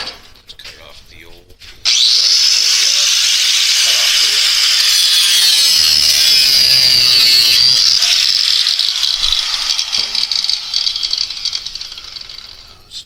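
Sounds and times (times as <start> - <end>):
abrasive wheel cutting steel: 1.9 - 13.0.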